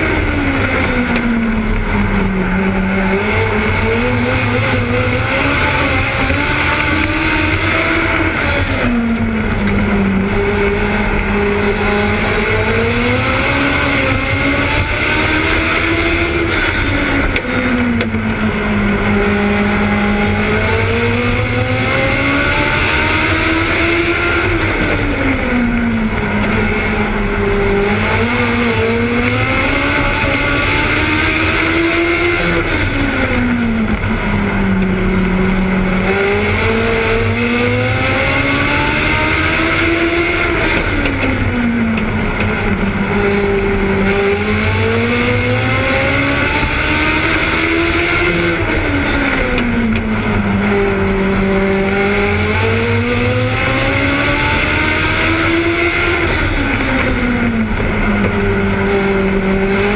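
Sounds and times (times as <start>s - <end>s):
race car engine at speed: 0.0s - 59.9s.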